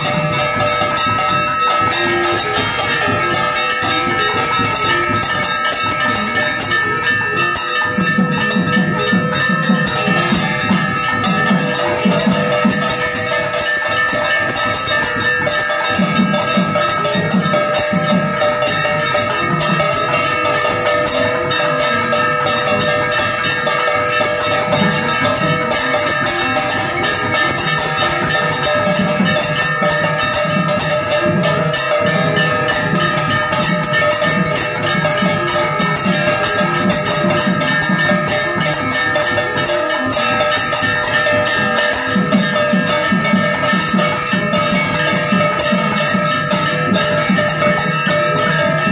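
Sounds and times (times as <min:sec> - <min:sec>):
temple bells ringing: 0:00.0 - 0:48.9.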